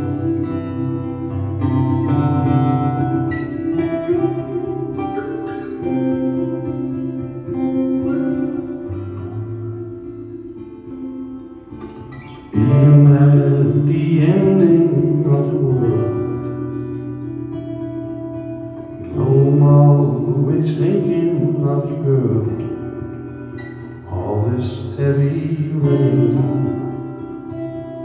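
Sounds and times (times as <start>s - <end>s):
picked guitars ringing: 0.0s - 28.0s.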